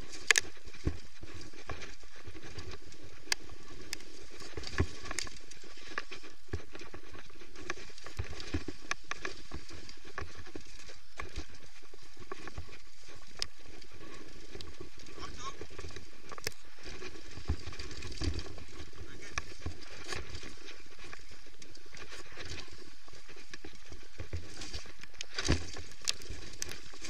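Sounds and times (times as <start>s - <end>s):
tyre noise on dirt: 0.0s - 27.0s.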